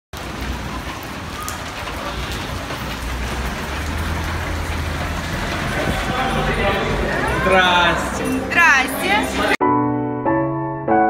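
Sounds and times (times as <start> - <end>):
heavy rain on pavement: 0.1 - 9.6
low rumble of street traffic: 0.1 - 9.6.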